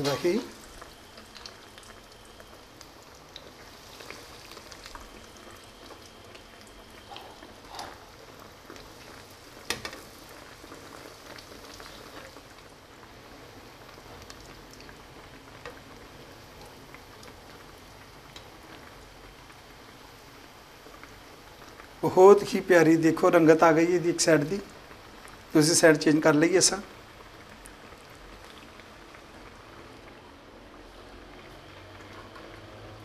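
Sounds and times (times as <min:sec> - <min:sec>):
chicken sizzling and crackling in oil: 0:00.0 - 0:33.0.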